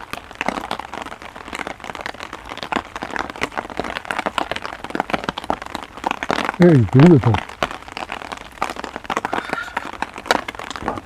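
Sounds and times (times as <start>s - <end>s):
rain on an umbrella: 0.0s - 11.0s.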